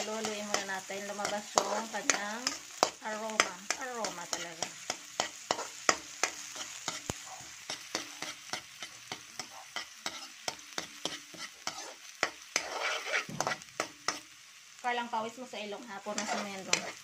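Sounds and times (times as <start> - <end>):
metal spatula scraping a pan: 0.0 - 14.4, 16.0 - 17.0
onion and garlic sizzling in oil: 0.0 - 17.0.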